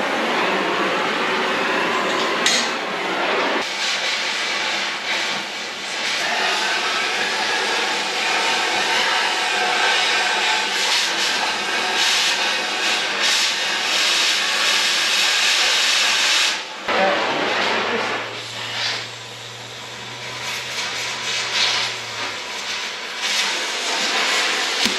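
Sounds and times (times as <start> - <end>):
cutting torch hissing: 3.6 - 24.9.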